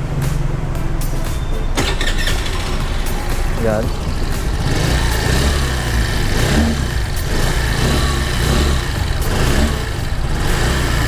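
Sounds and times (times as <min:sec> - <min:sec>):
scooter engine revving: 0:01.8 - 0:11.0.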